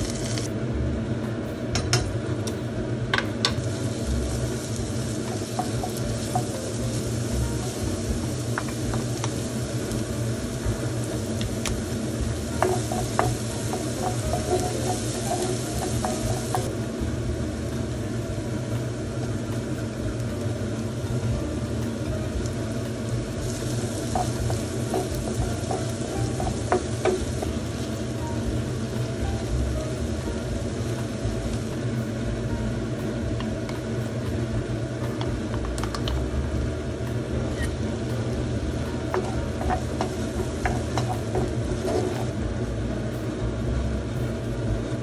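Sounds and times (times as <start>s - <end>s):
tomatoes sizzling in oil: 0.0s - 0.7s, 1.3s - 45.0s
low hum: 0.0s - 45.0s.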